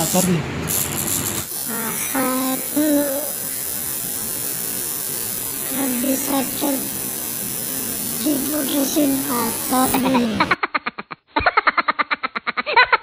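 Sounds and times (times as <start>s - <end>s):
tattoo machine buzzing: 0.0s - 10.6s.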